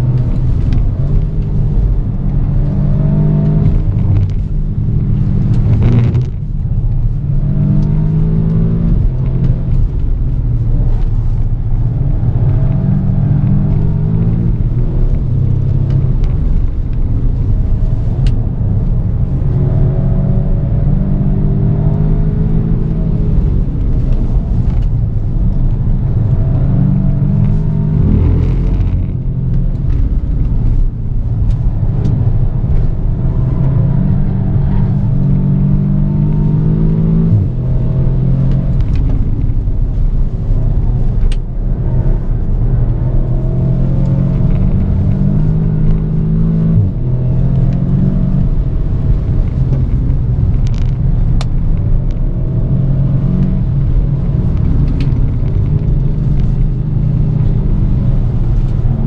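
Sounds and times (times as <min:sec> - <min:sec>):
car engine revving hard: 0:00.0 - 0:10.0, 0:19.2 - 0:30.9, 0:31.6 - 0:39.6, 0:40.8 - 0:59.0.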